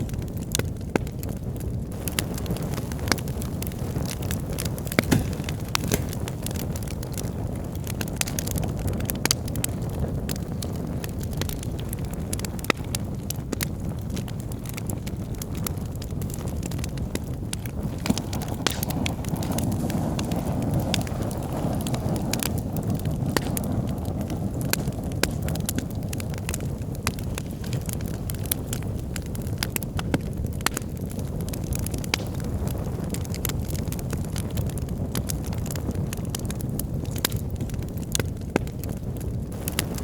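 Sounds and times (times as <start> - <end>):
burning logs crackling and popping: 0.0 - 40.0
flames roaring: 0.0 - 40.0.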